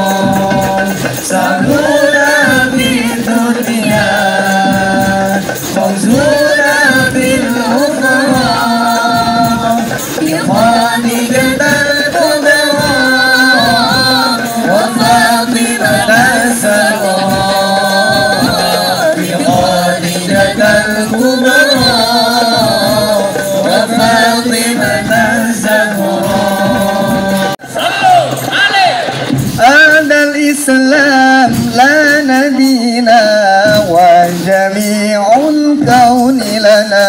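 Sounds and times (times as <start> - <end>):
frame drums: 0.0 - 37.0
voices singing: 0.0 - 37.0.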